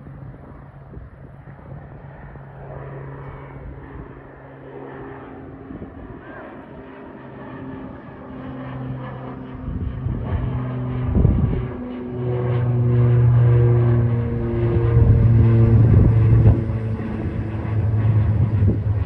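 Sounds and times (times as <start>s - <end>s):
turboprop aircraft propeller drone: 0.0s - 19.0s.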